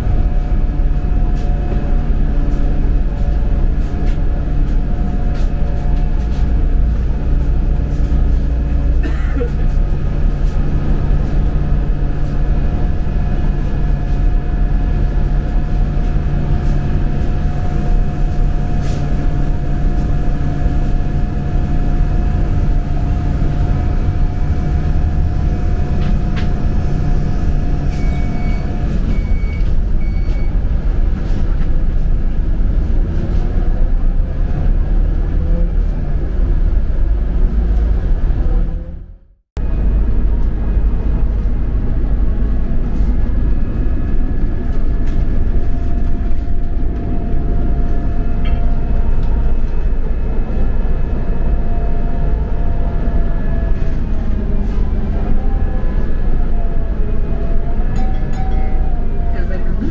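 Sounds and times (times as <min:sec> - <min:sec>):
bus engine low rumble: 0:00.0 - 0:59.9.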